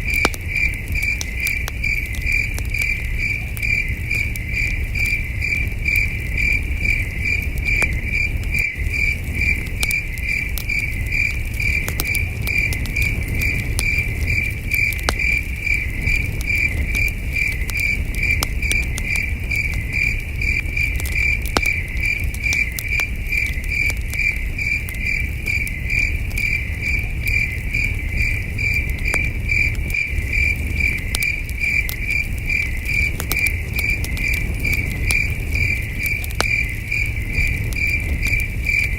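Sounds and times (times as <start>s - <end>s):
campfire crackling and popping: 0.0s - 38.9s
crickets chirping: 0.0s - 38.9s
low steady rumble: 0.0s - 38.9s.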